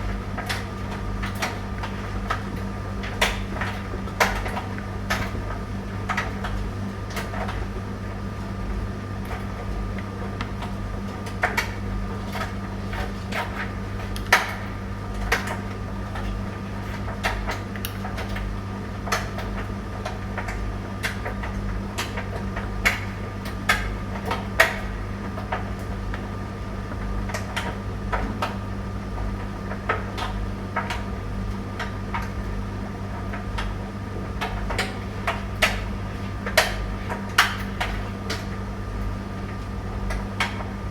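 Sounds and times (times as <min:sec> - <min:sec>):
tumble dryer motor hum: 0:00.0 - 0:40.9.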